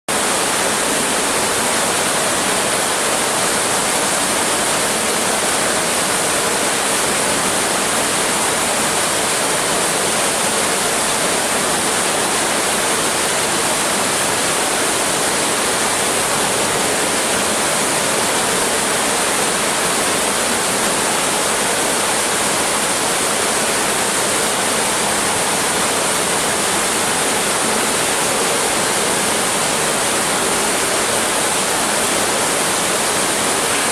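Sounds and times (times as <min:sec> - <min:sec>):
water pouring from waterfall: 0:00.1 - 0:33.9.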